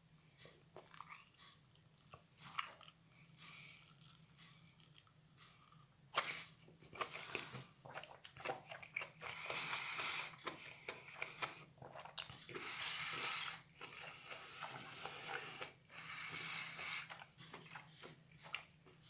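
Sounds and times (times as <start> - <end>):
person chewing: 0.4 - 19.0.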